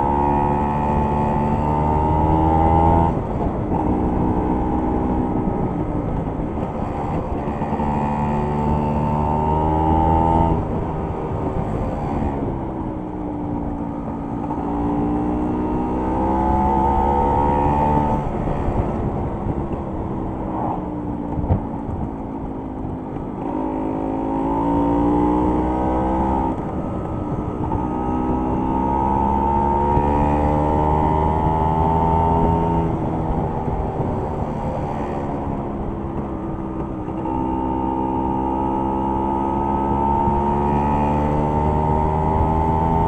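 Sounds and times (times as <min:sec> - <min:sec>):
wind and road rumble: 0:00.0 - 0:43.0.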